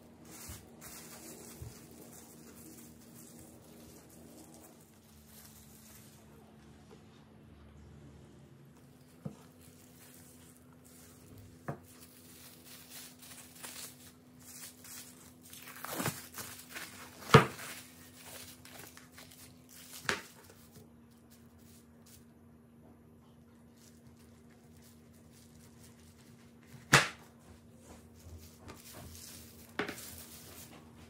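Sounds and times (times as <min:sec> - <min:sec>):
cling film crinkling: 0:00.0 - 0:06.6, 0:08.8 - 0:22.2, 0:23.6 - 0:27.2, 0:28.0 - 0:31.0
faint steady hum: 0:00.0 - 0:31.0.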